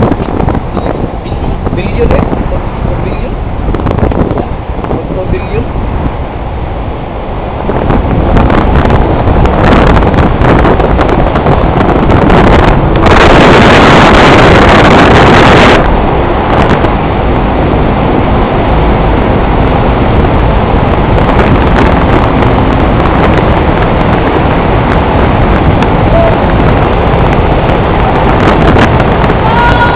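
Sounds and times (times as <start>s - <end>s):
car road and wind noise: 0.0s - 29.9s.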